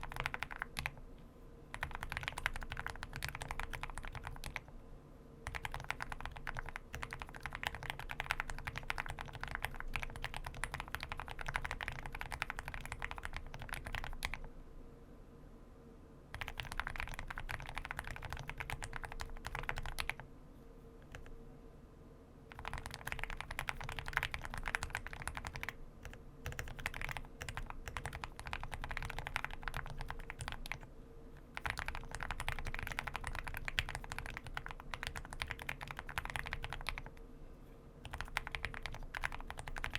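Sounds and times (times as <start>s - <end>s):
typing on mechanical keyboard: 0.0s - 1.0s, 1.7s - 4.7s, 5.4s - 14.5s, 16.3s - 20.2s, 21.1s - 21.3s, 22.5s - 30.9s, 31.5s - 37.2s, 38.0s - 39.9s.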